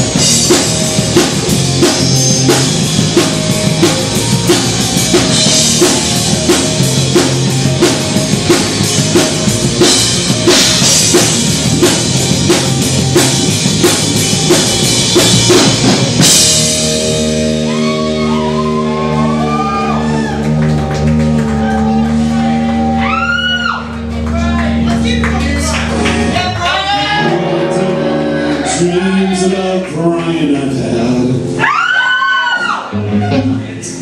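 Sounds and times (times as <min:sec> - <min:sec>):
drum kit beat: 0:00.0 - 0:32.6
electric guitar: 0:00.0 - 0:34.0.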